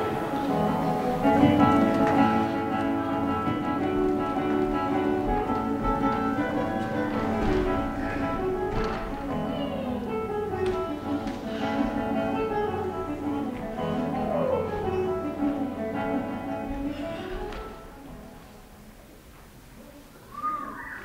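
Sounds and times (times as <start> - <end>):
instrumental music: 0.0 - 19.1.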